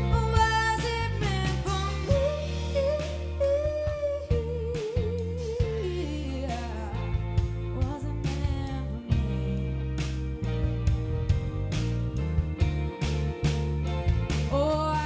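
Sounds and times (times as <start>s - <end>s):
bass: 0.0s - 15.0s.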